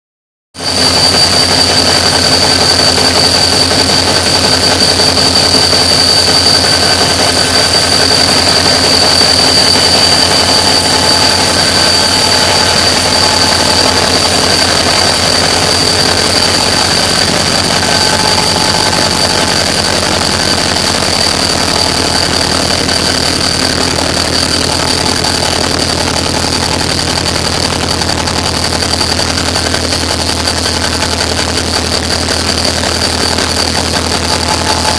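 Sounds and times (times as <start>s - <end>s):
high-pitched whine: 0.6s - 34.9s
locomotive engine hum: 0.7s - 34.9s.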